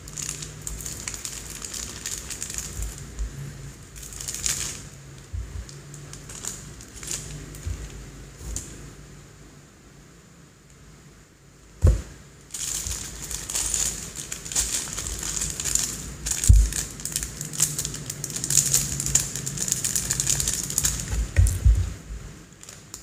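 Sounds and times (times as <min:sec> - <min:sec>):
plastic bag crinkling: 0:00.0 - 0:08.9, 0:11.8 - 0:23.0.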